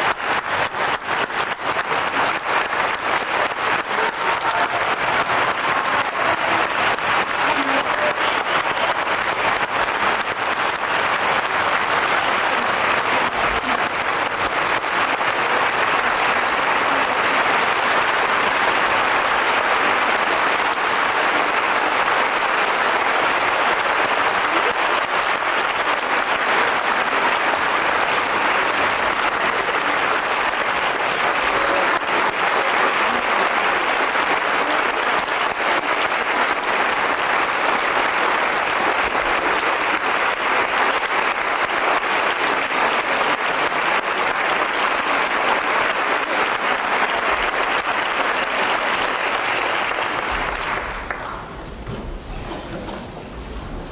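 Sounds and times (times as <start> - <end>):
audience applauding: 0.0 - 53.3.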